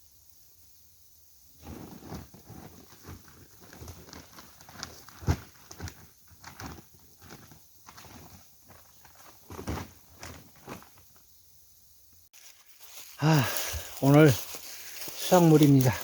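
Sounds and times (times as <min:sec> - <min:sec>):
dry brush rustling and crackling: 0:01.6 - 0:11.3, 0:12.3 - 0:16.0.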